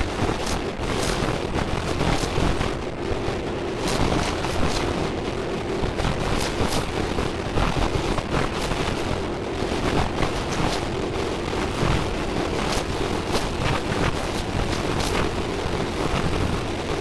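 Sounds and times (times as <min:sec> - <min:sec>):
faint crackles: 0:00.0 - 0:17.0
loud rushing noise with rumble: 0:00.0 - 0:17.0.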